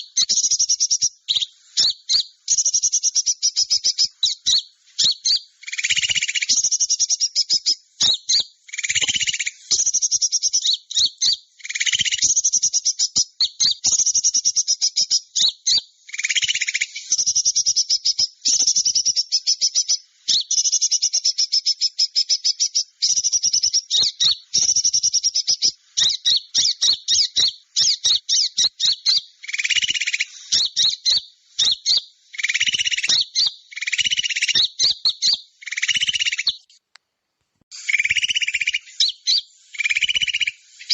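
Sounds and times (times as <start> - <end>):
high twittering bird chirps: 0.0 - 36.8, 37.7 - 40.9.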